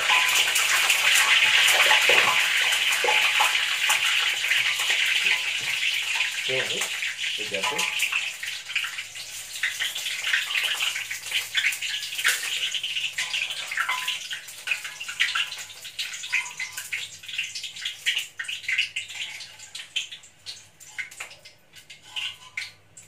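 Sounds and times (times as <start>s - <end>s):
food sizzling in hot oil: 0.0s - 22.8s
oil crackling: 0.0s - 22.8s.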